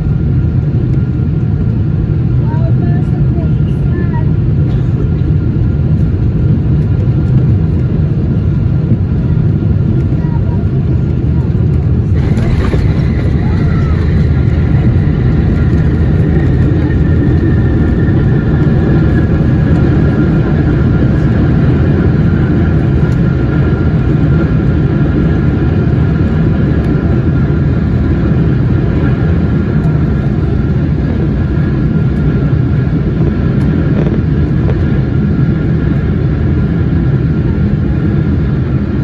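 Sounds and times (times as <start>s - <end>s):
high engine whine: 0.0s - 39.0s
rumble of engines and wheels: 0.0s - 39.0s.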